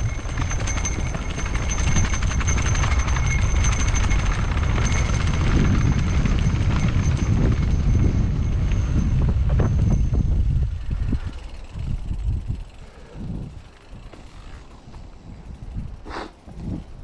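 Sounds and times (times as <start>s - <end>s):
bike rattling clicks: 0.0s - 17.0s
tyre and wind rumble: 0.0s - 17.0s.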